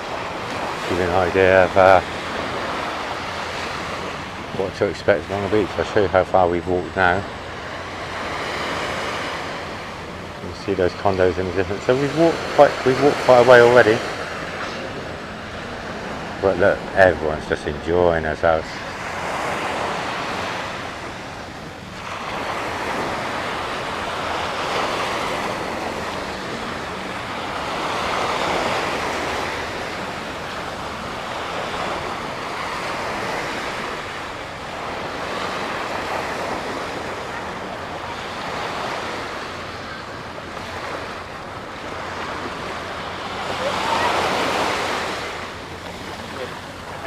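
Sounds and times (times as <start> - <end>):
small waves breaking on a beach: 0.0 - 47.0.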